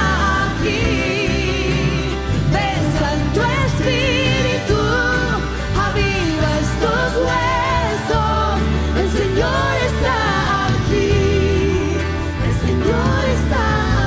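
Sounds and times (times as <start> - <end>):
acoustic guitar: 0.0 - 14.0
drums: 0.0 - 14.0
keyboard: 0.0 - 14.0
several voices singing: 0.0 - 14.0.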